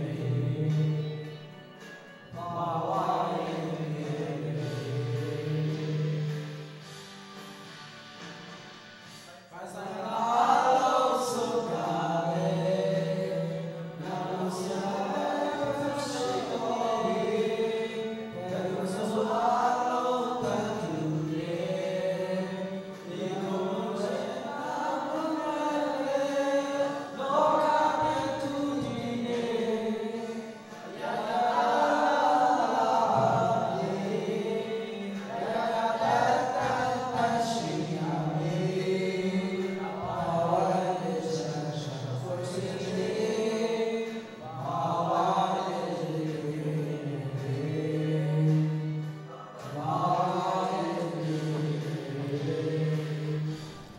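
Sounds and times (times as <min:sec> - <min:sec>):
men singing into a microphone: 0:00.0 - 0:01.5, 0:02.3 - 0:07.0, 0:09.2 - 0:53.9.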